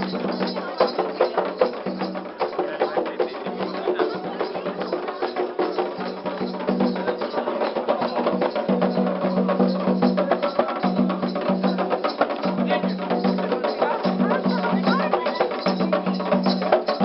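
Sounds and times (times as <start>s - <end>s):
hand drums: 0.0s - 17.0s
struck percussion instrument: 0.0s - 17.0s
voices singing held notes: 3.0s - 17.0s.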